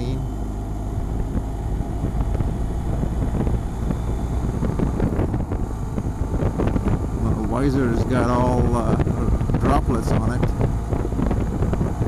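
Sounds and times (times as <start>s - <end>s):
motorcycle engine drone: 0.0s - 12.0s
road noise: 0.0s - 12.0s
wind buffeting microphone: 0.3s - 12.0s.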